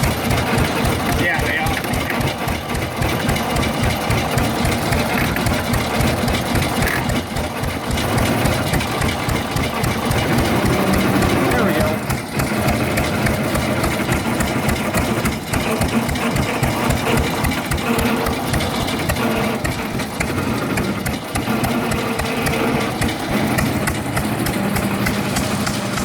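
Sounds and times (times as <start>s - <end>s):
engine firing beats: 0.0s - 26.0s.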